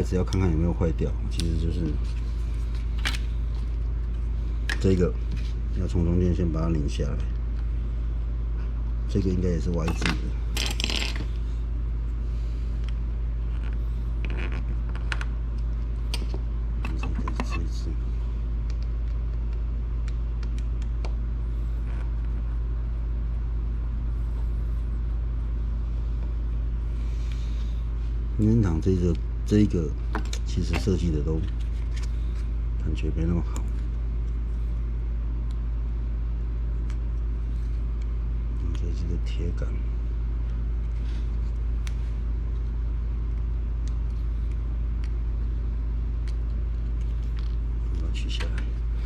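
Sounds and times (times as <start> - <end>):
low background hum: 0.0 - 49.0.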